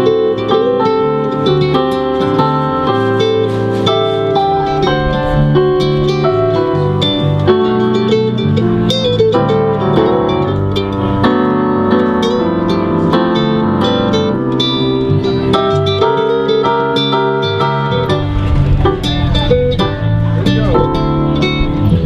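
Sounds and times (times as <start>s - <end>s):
small band instrumental music: 0.0s - 22.0s.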